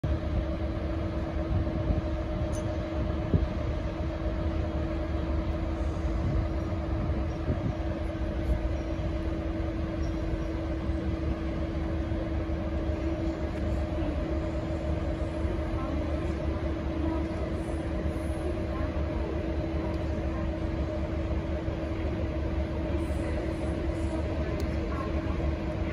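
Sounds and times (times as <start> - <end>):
diesel locomotive rumbling: 0.0 - 25.9.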